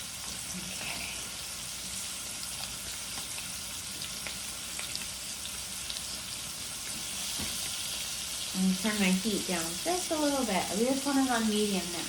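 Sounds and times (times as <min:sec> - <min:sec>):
steaks sizzling in a pan: 0:00.0 - 0:12.0.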